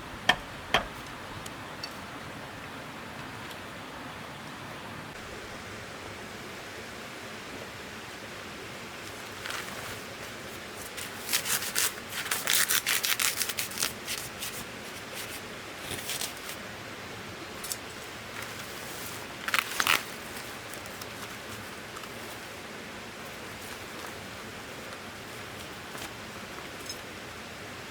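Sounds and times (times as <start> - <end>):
steady background hiss: 0.0 - 27.9.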